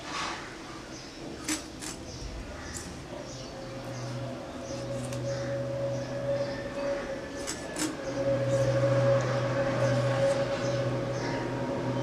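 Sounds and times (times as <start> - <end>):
steady low hum: 0.6 - 12.0.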